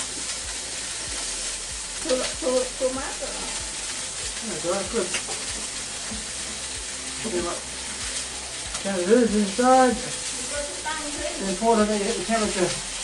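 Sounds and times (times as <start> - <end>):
meat sizzling in a hot wok: 0.0 - 13.0.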